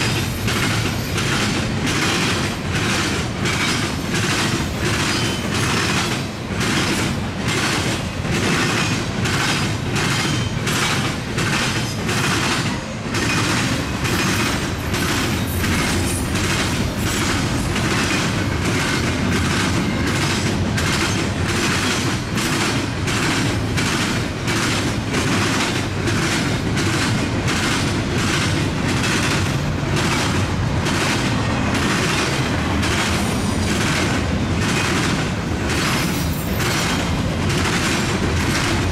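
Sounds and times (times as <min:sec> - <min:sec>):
freight train wheels rumbling on rail: 0:00.0 - 0:38.9
train wheels clacking over crossing: 0:00.0 - 0:38.9.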